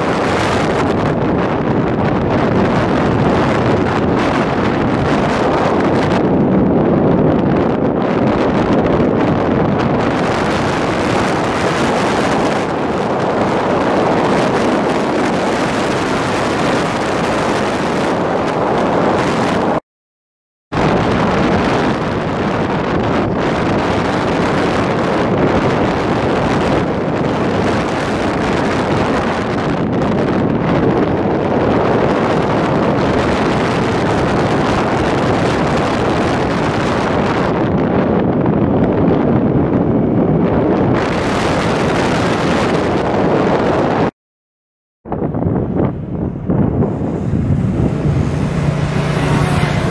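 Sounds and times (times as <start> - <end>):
road and engine noise: 0.0 - 19.8, 20.7 - 44.1, 45.0 - 49.9
wind buffeting microphone: 0.0 - 19.8, 20.7 - 44.1, 45.0 - 49.9.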